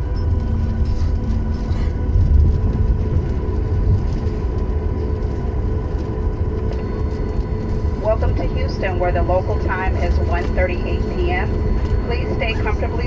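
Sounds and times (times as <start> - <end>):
jet engines at low power: 0.0 - 13.0
low rumble inside aircraft cabin: 0.0 - 13.0.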